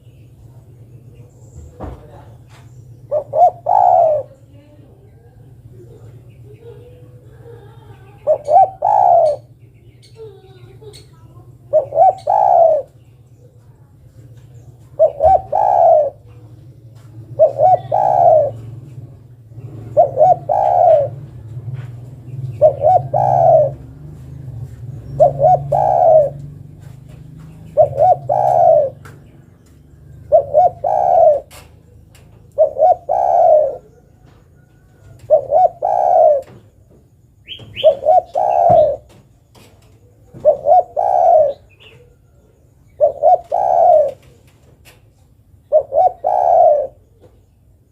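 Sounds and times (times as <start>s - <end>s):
dove cooing: 3.0s - 13.7s, 14.7s - 39.3s, 40.0s - 44.5s, 45.5s - 47.3s.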